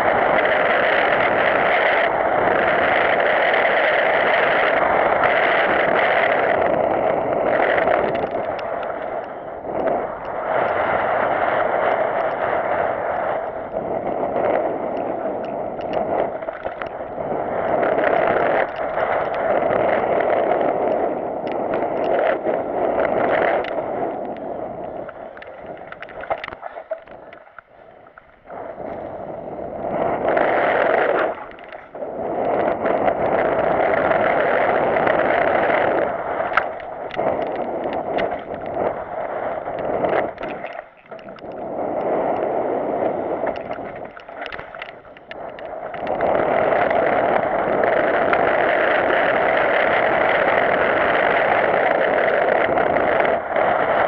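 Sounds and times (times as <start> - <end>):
bike clicking and rattling: 0.0 - 54.0
wind on camera microphone: 0.0 - 54.0.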